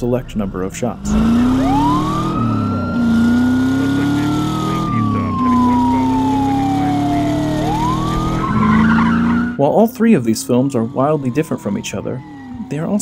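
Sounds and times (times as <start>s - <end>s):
car engine accelerating: 0.0s - 13.0s
police siren wailing: 0.0s - 13.0s.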